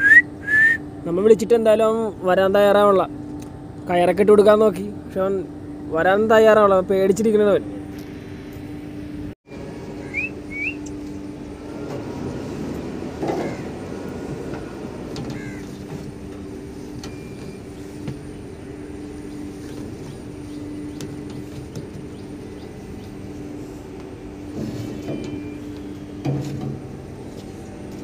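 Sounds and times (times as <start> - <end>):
electric boat motor hum: 4.8 - 28.0.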